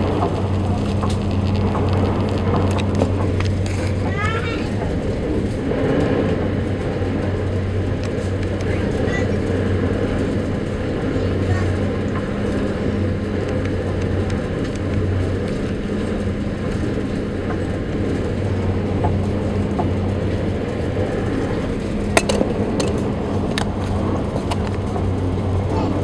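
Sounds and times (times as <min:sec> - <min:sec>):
ferry engine drone: 0:00.0 - 0:26.0.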